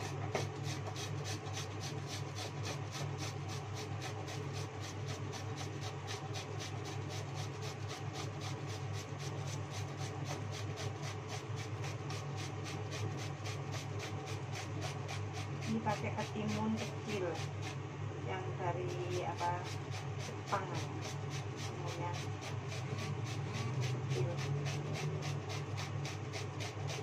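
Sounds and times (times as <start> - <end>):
cucumber grating on metal grater: 0.0 - 17.8, 18.8 - 27.0
steady low hum: 0.0 - 27.0.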